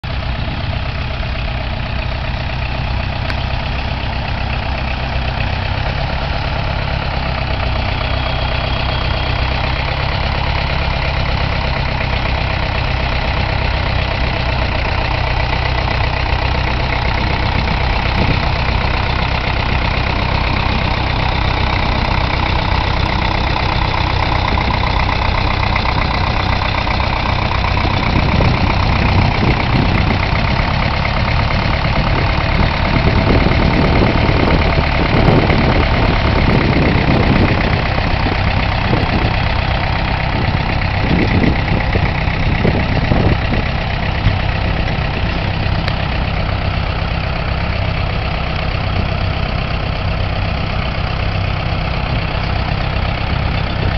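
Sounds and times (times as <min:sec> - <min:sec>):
tractor engine straining: 0:00.0 - 0:53.9.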